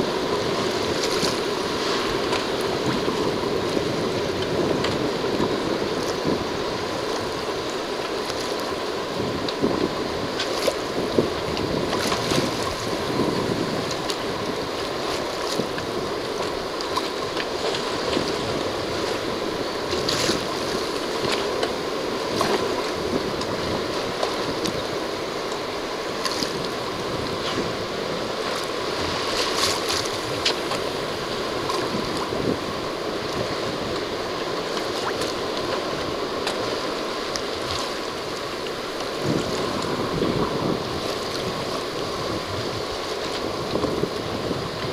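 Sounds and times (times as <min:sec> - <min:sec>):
water splashing along hull: 0:00.0 - 0:44.9
wind buffeting microphone: 0:00.0 - 0:44.9.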